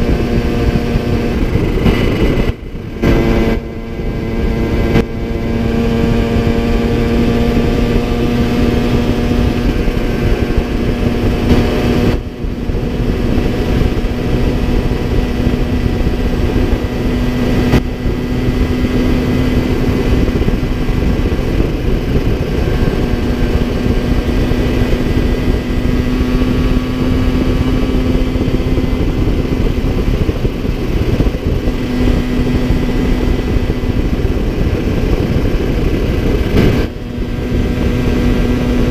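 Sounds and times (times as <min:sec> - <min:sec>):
two-stroke engine running: 0:00.0 - 0:38.9
wind rush on microphone: 0:00.0 - 0:38.9.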